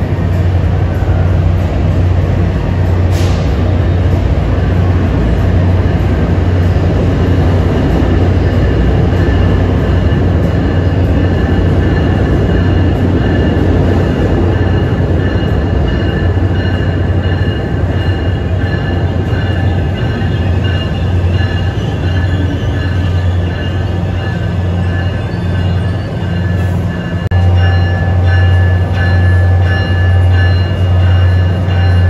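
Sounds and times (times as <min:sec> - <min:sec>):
electric locomotive rumbling past: 0:00.0 - 0:32.0.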